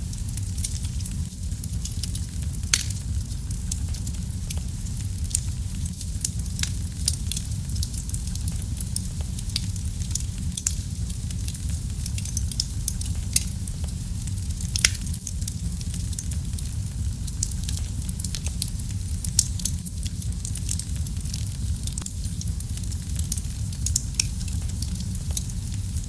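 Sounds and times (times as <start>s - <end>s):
fire crackling and popping: 0.0s - 26.0s
low rumble of fire: 0.0s - 26.0s.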